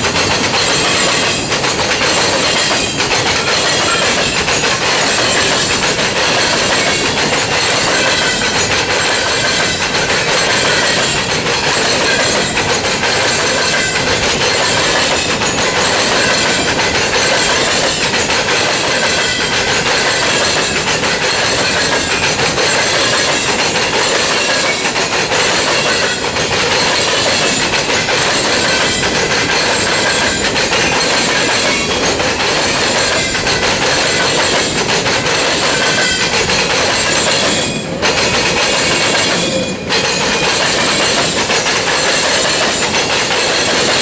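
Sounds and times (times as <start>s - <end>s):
clickety-clack over rail joints: 0.0s - 44.0s
freight train wheels rumbling on rail: 0.0s - 44.0s.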